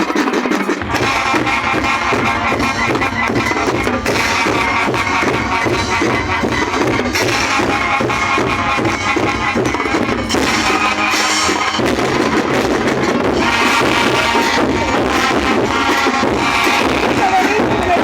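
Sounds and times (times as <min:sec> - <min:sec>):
marching band brass: 0:00.0 - 0:18.0
marching band drums: 0:00.0 - 0:18.0.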